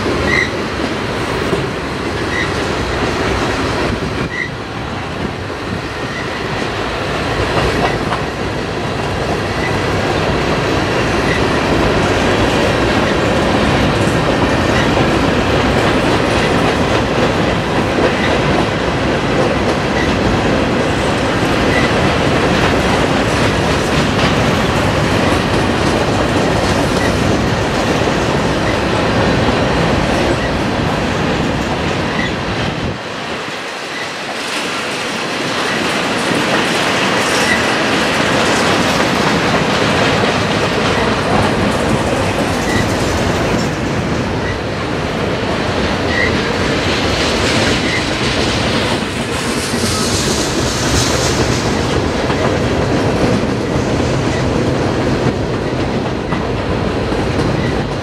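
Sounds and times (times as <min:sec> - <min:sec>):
clickety-clack over rail joints: 0:00.0 - 0:58.0
wheels rumbling on rail: 0:00.0 - 0:58.0.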